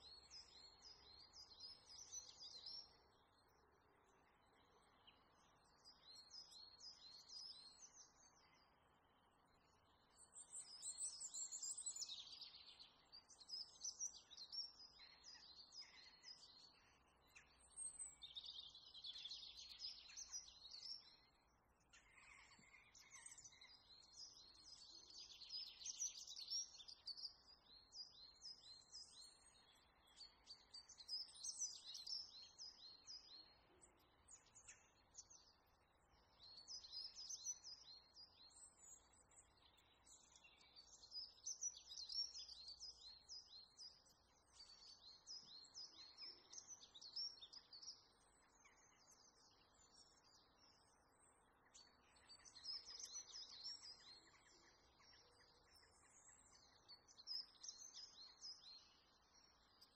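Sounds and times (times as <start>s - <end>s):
low steady hiss: 0.0s - 59.9s
small birds twittering: 0.0s - 59.9s.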